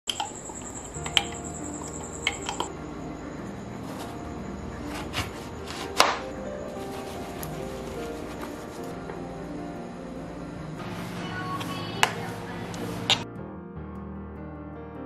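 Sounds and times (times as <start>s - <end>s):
background music: 0.1s - 15.0s.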